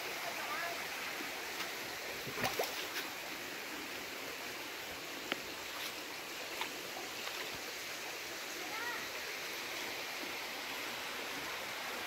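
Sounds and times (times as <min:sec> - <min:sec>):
rushing stream water: 0:00.0 - 0:12.0.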